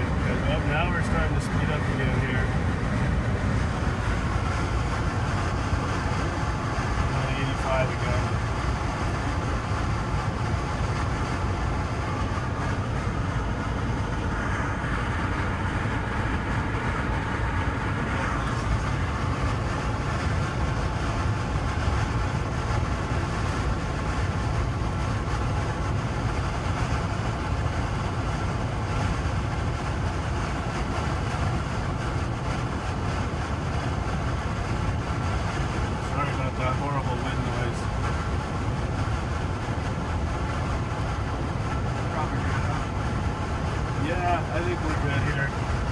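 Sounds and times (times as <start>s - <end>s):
car cabin road noise: 0.0s - 45.9s
tyre and engine rumble: 0.0s - 45.9s.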